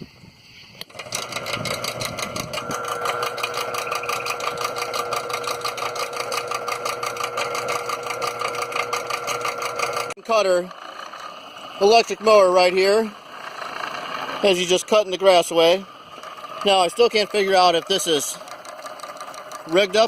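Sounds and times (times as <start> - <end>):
electric mower motor whining: 0.7 - 20.0
fast even ticking: 0.9 - 20.0.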